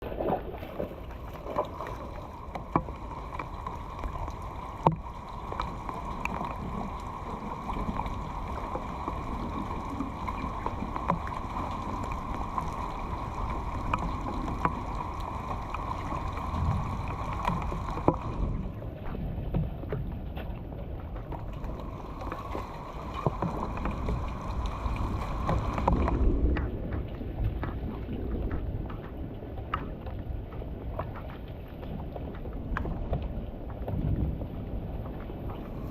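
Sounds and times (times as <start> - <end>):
water rushing and splashing: 0.0 - 35.9
wind buffeting microphone: 1.2 - 35.9.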